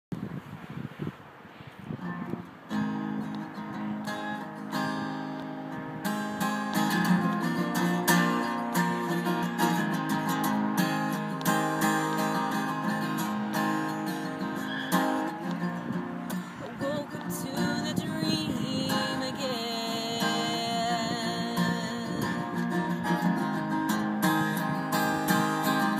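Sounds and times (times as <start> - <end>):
acoustic guitar strumming: 2.0 - 25.9.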